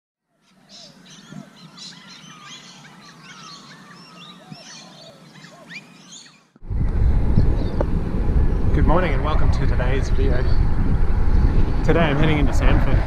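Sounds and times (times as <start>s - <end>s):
birds chirping: 0.3s - 12.7s.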